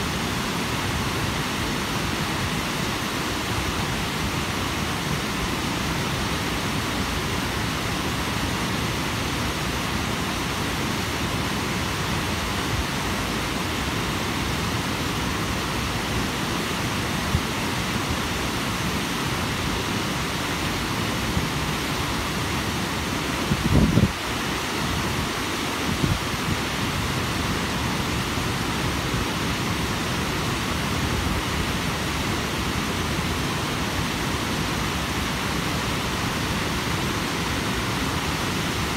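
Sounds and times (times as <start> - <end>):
water rushing over dam spillway: 0.0 - 38.9.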